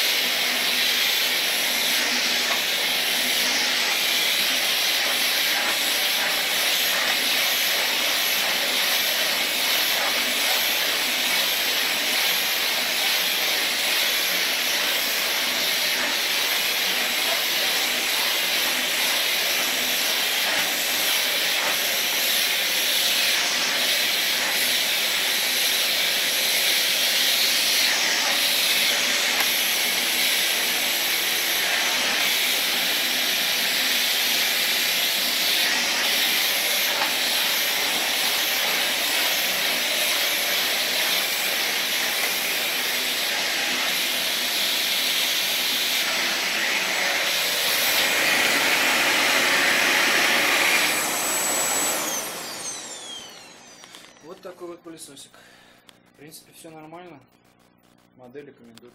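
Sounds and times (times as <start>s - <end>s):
vacuum cleaner running: 0.0s - 55.6s.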